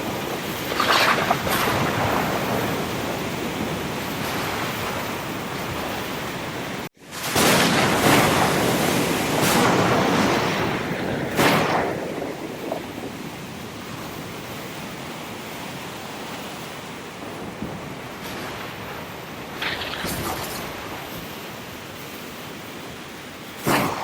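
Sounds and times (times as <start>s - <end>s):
ocean waves: 0.0s - 24.0s.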